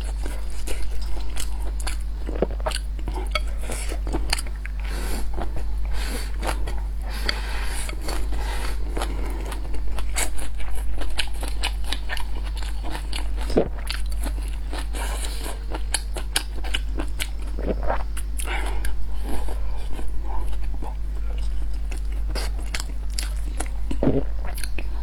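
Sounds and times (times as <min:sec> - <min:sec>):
chewing and biting: 0:00.0 - 0:25.0
steady low hum: 0:00.0 - 0:25.0.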